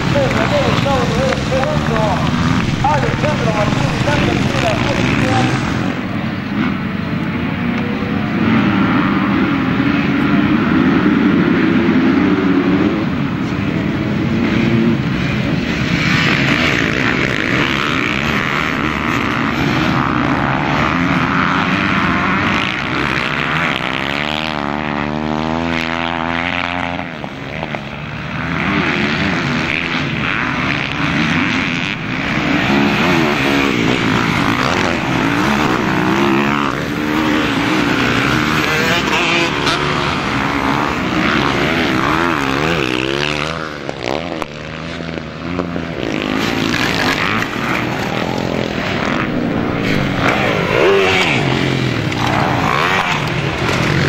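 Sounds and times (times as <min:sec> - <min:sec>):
motocross engines revving: 0:00.0 - 0:54.0
motorcycle passing close: 0:00.0 - 0:54.0.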